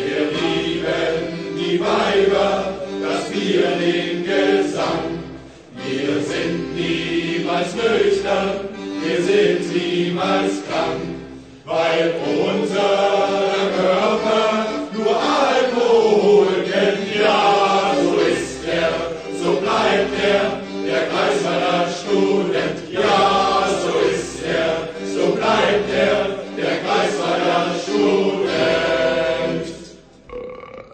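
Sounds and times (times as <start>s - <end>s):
group singing drinking song: 0.0s - 30.1s.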